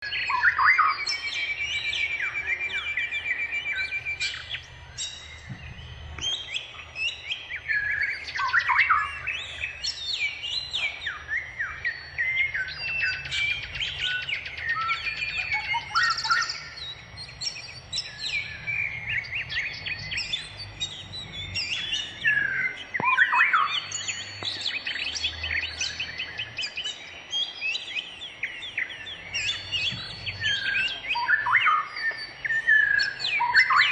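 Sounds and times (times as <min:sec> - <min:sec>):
birds chirping and singing: 0:00.0 - 0:33.9.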